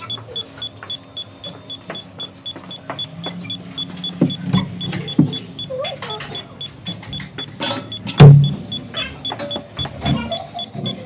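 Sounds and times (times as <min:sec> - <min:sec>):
short high beeps: 0:00.0 - 0:11.0.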